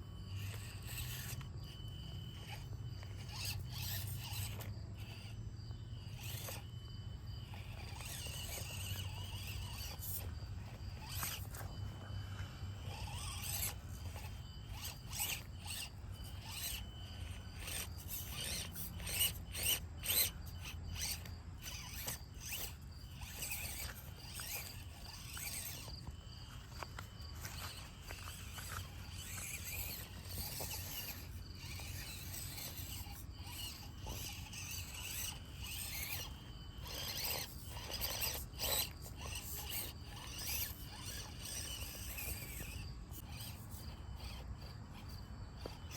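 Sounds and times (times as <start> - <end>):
electric motor zipping whir: 0.0 - 45.9.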